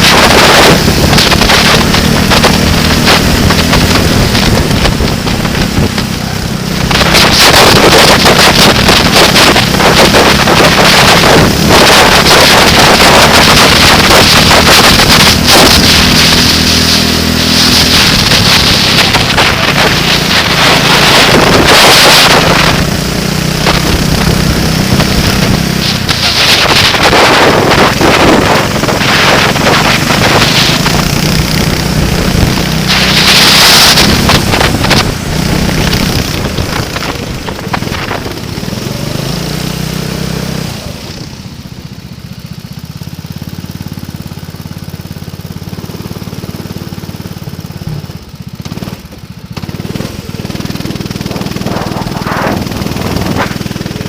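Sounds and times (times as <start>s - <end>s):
wind buffeting microphone: 0.0s - 40.6s, 50.5s - 54.0s
vehicle engine running: 0.0s - 54.0s.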